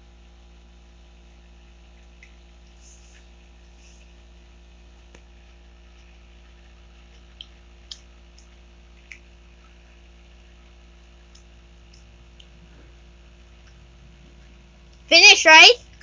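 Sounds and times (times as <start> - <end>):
steady low hum: 0.0 - 16.0
child chewing cookie: 1.4 - 15.1.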